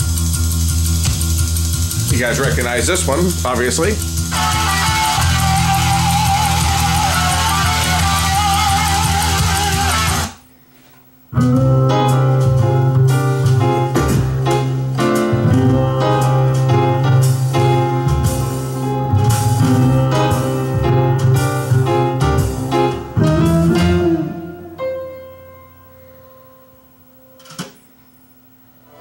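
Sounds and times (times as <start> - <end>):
instrumental music through speakers: 0.0 - 10.4, 11.3 - 27.7.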